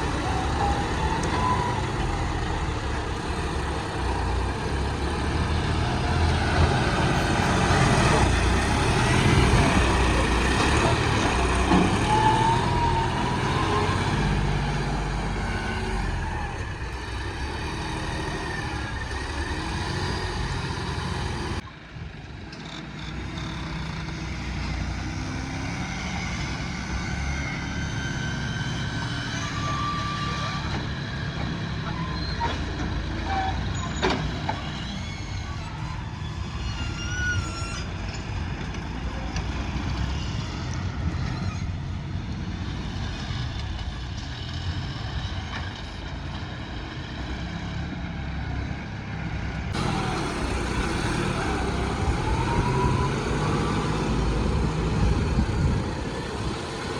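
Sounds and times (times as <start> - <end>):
diesel engines running: 0.0 - 56.9.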